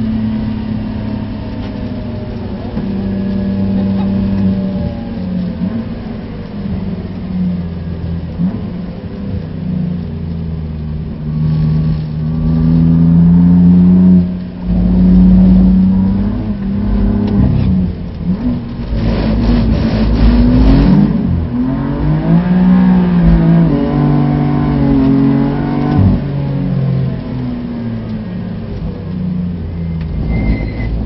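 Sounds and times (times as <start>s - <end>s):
car engine accelerating through gears: 0.0s - 31.0s.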